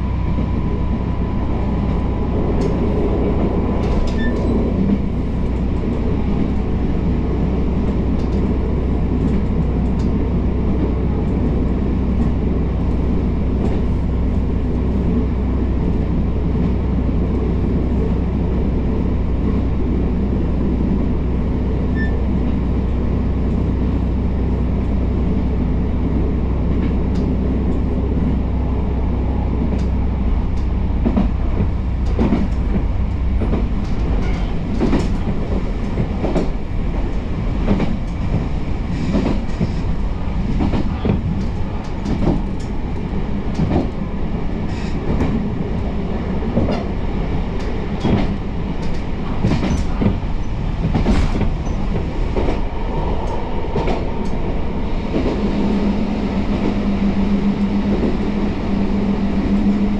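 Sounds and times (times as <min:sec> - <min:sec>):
diesel railcar engine drone: 0:00.0 - 0:59.9.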